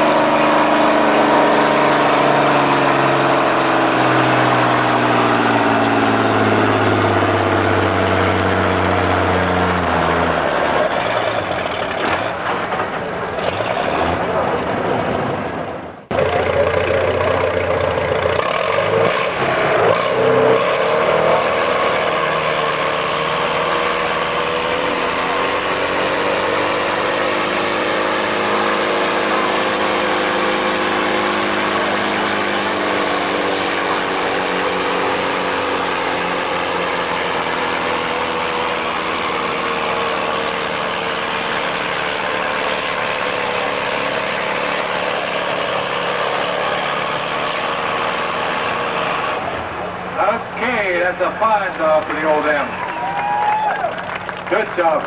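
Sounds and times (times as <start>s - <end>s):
tractor engine running hard: 0.0s - 55.0s.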